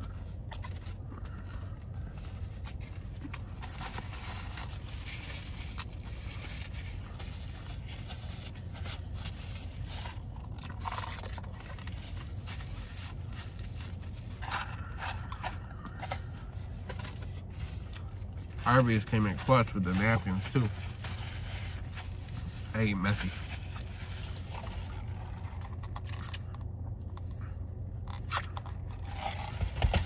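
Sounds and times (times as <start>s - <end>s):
man chewing crunchy food: 0.0s - 18.6s, 23.7s - 30.0s
steady low hum: 0.0s - 30.0s.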